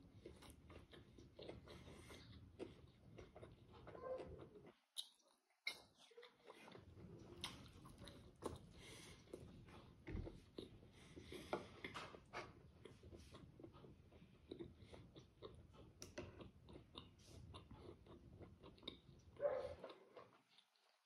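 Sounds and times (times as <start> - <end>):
close-miked chewing: 0.0 - 21.0.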